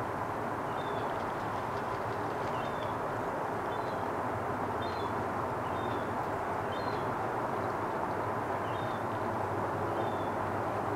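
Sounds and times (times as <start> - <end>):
low outdoor rumble: 0.0 - 10.9.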